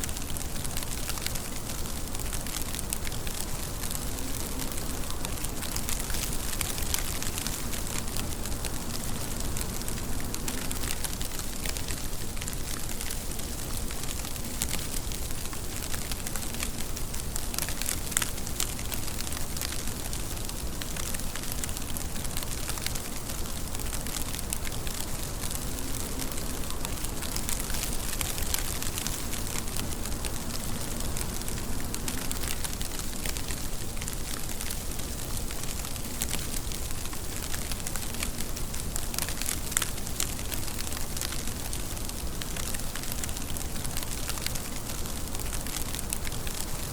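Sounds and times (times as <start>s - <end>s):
rain falling: 0.0s - 46.9s
raindrop ticks: 0.0s - 46.9s.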